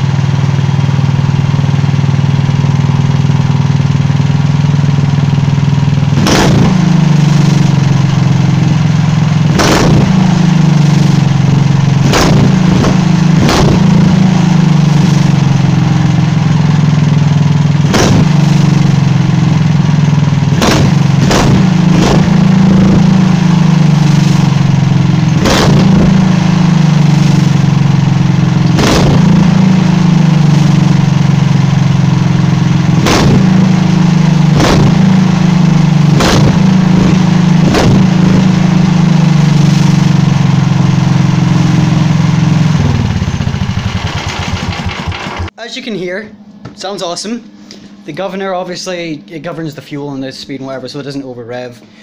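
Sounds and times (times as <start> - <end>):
exhaust pops: 0.0 - 45.6
go-kart engine revving high: 0.0 - 45.6.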